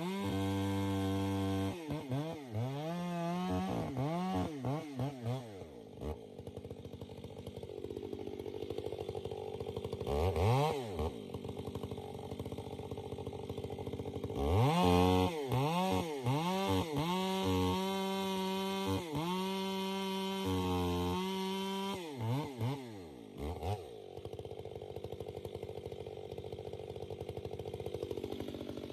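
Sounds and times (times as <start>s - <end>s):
chainsaw engine revving: 0.0s - 28.9s.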